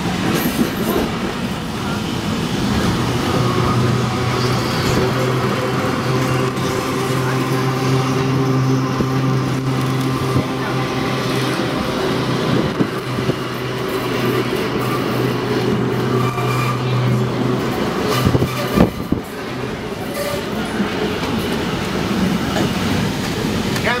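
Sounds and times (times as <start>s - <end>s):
streetcar body and wheels rattling: 0.0s - 24.0s
streetcar low hum: 0.0s - 24.0s.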